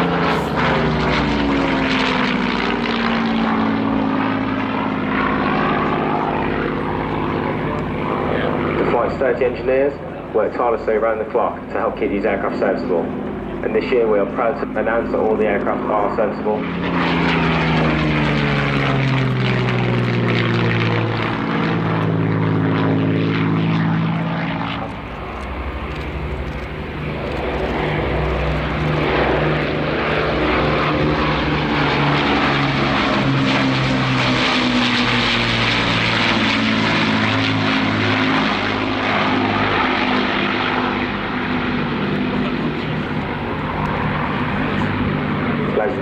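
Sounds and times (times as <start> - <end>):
propeller plane passing low: 0.0 - 46.0.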